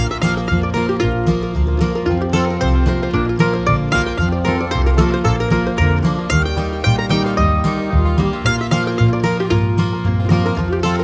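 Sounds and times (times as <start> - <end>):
plucked string instruments: 0.0 - 11.0
rhythmic bass line: 0.0 - 11.0.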